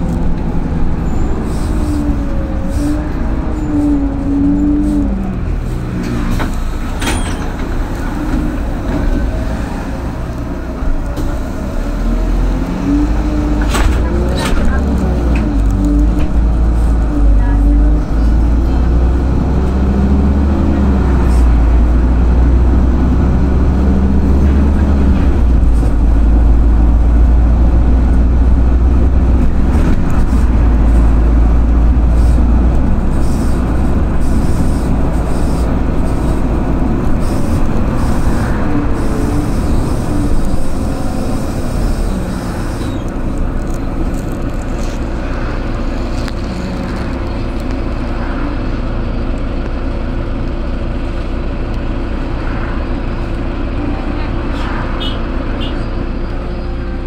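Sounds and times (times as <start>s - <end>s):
bus engine drone: 0.0s - 57.0s
tyre and road rumble: 0.0s - 57.0s.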